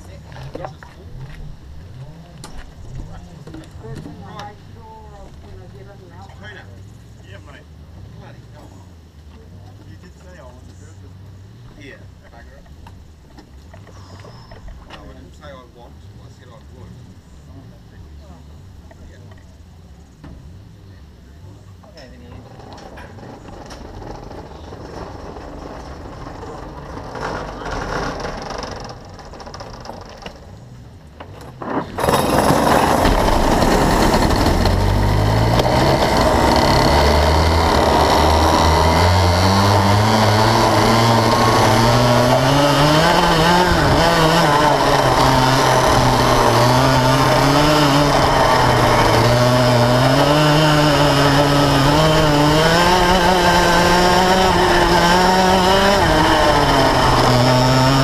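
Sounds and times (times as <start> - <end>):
kart engine accelerating: 0.0 - 58.0.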